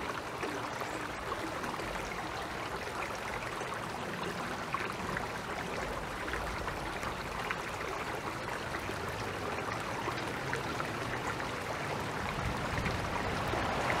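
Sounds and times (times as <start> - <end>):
creek babbling over rocks: 0.0 - 14.0
small water splashes and trickles: 0.0 - 14.0.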